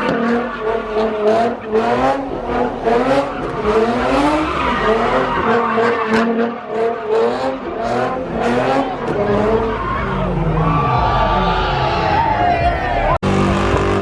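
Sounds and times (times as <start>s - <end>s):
car engine revving hard: 0.0s - 10.6s, 13.2s - 14.0s
tires skidding and squealing: 0.0s - 14.0s.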